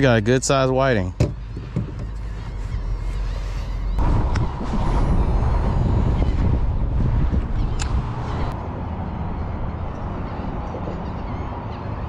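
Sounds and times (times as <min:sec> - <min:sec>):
wind buffeting microphone: 0:01.3 - 0:12.0.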